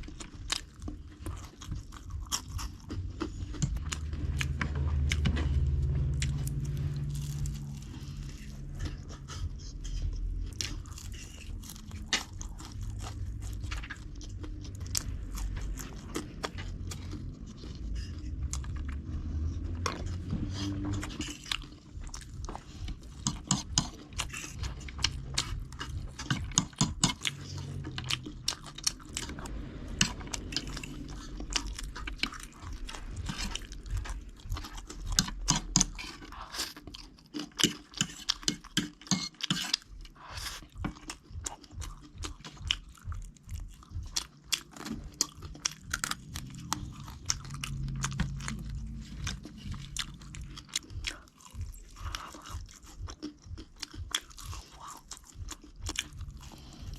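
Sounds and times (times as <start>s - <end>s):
person chewing crunchy food: 0.0s - 56.9s.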